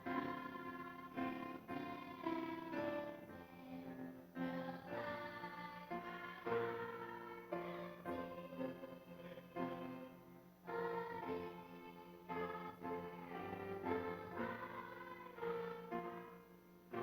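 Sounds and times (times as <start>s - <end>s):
voices singing a hymn: 0.0s - 17.0s.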